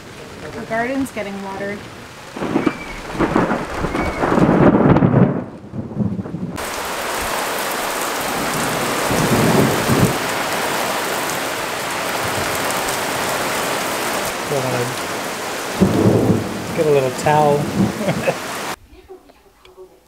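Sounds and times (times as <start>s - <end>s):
heavy rain downpour: 0.0s - 18.8s
thunder rumbling: 0.0s - 19.3s.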